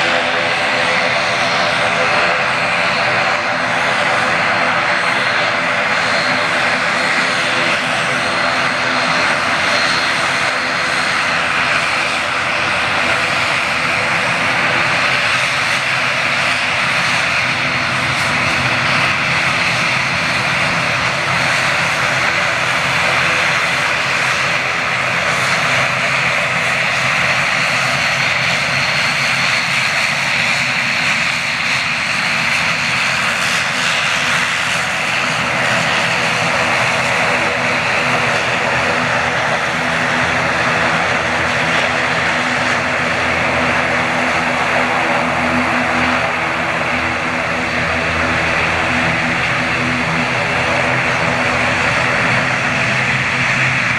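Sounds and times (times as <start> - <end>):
turboprop engines running: 0.0 - 53.9.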